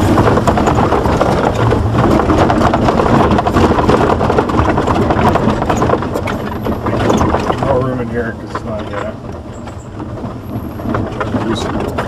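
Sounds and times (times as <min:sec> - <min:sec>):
body and suspension rattling: 0:00.0 - 0:12.0
car engine: 0:00.0 - 0:12.0
tyre noise on dirt track: 0:00.0 - 0:12.0.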